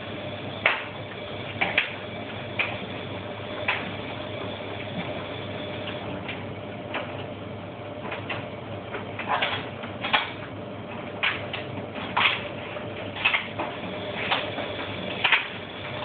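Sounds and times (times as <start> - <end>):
washing machine drum humming: 0.0 - 16.0.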